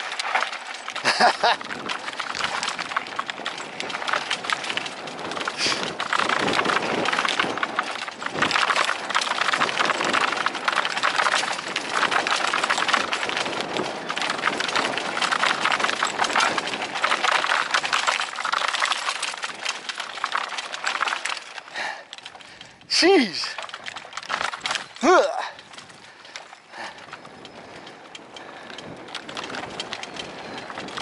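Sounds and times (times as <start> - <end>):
bike rattling: 0.0 - 31.0
tyres crunching over dirt: 0.0 - 31.0.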